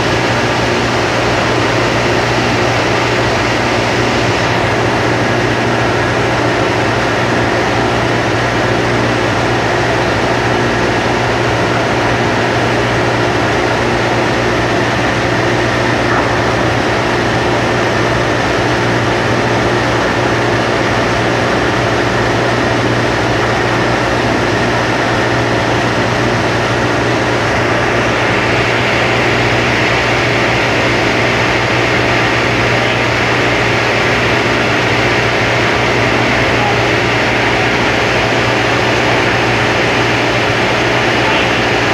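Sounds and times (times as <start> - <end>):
industrial machinery hum: 0.0 - 41.9.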